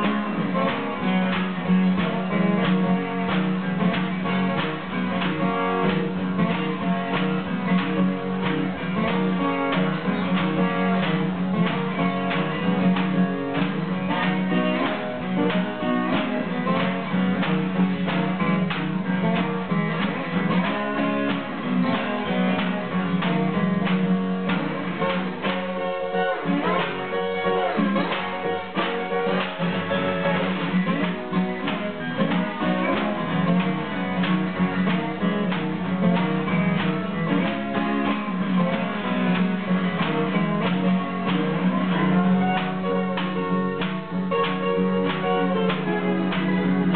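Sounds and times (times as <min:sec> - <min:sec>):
slide guitar lead: 0:00.0 - 0:46.9
strummed acoustic guitar: 0:00.0 - 0:46.9.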